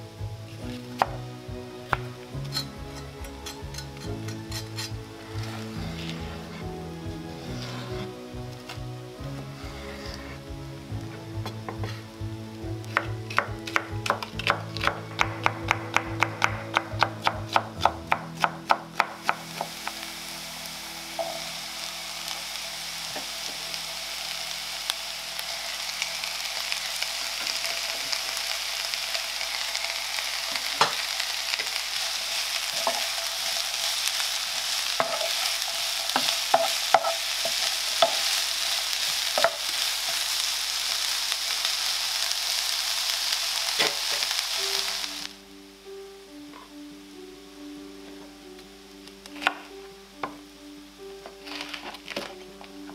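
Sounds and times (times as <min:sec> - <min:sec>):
vegetables sizzling in a pan: 0:00.0 - 0:47.3, 0:48.9 - 0:52.9.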